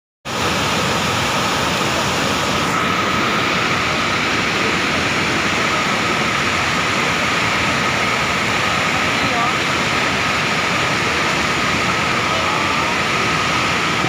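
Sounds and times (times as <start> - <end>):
rushing flood water: 0.3 - 14.0.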